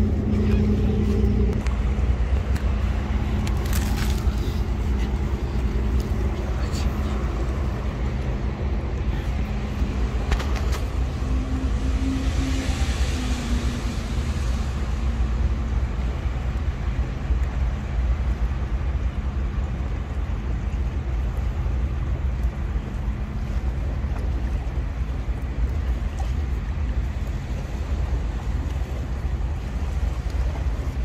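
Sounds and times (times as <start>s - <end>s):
traffic engine drone: 0.0s - 31.0s.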